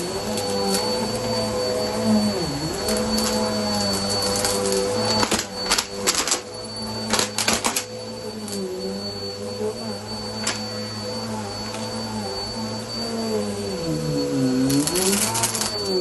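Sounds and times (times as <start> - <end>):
vacuum cleaner on a rug: 0.0 - 16.0.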